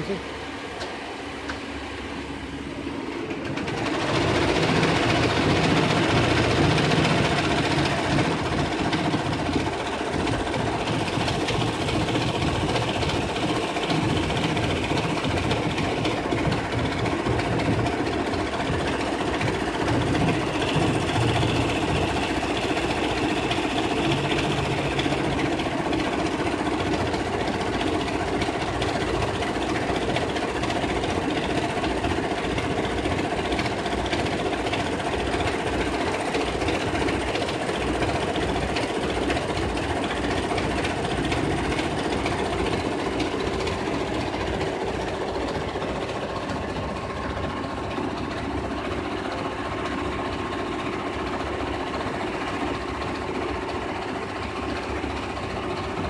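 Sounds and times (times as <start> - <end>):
embroidery machine stitching: 3.0 - 56.0.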